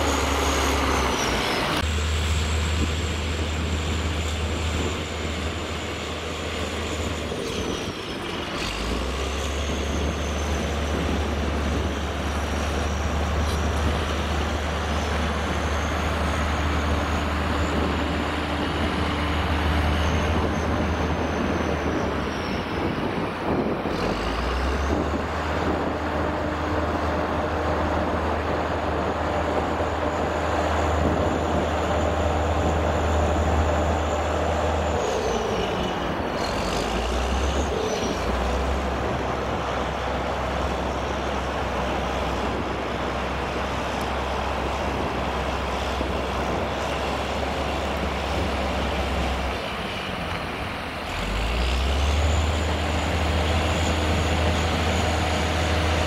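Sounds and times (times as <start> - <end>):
diesel trucks driving under load: 0.0 - 56.0.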